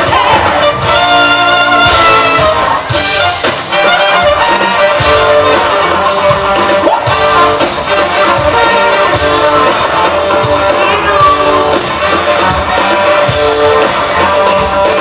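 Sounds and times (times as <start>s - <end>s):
drum kit: 0.0s - 15.0s
electric guitar: 0.0s - 15.0s
trumpet lead: 0.0s - 15.0s.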